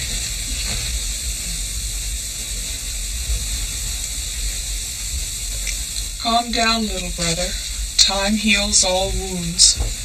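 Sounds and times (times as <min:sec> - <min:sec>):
film soundtrack hiss: 0:00.0 - 0:10.0
low hum: 0:00.0 - 0:10.0.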